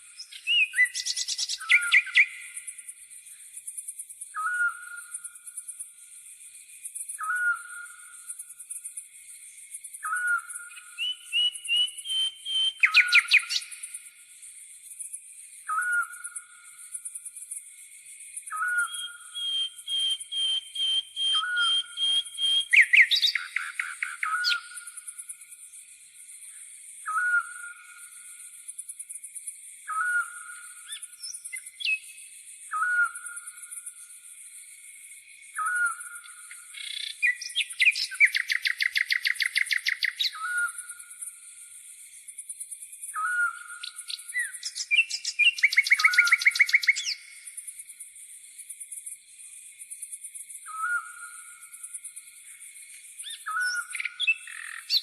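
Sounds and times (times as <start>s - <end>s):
songbirds chirping trills: 0.0s - 55.0s.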